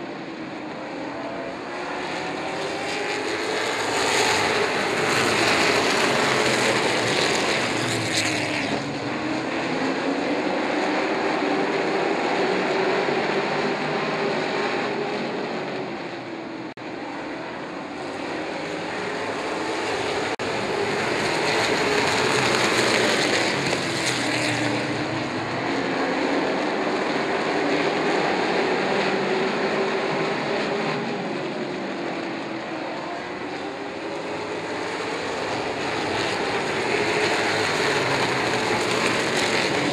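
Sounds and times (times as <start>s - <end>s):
race truck engines: 0.0s - 39.9s.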